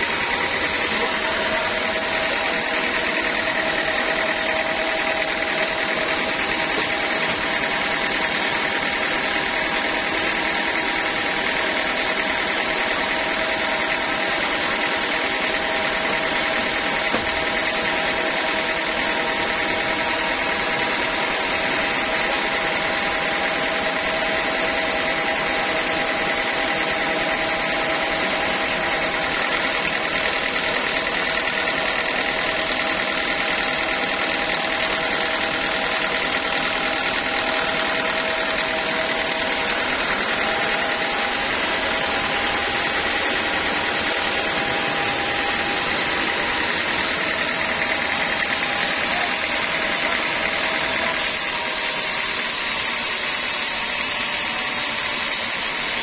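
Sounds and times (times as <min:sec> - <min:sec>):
band saw machine hum: 0:00.0 - 0:56.0.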